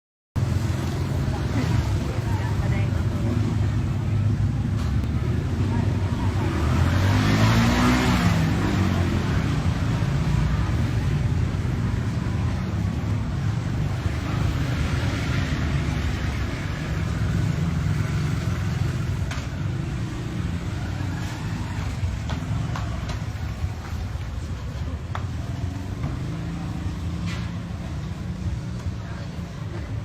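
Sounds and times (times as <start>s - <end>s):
car engine and road noise: 0.4s - 30.0s.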